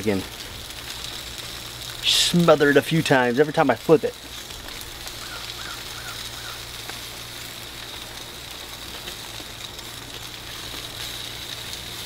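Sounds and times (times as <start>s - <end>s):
food sizzling on a grill: 0.0s - 12.0s.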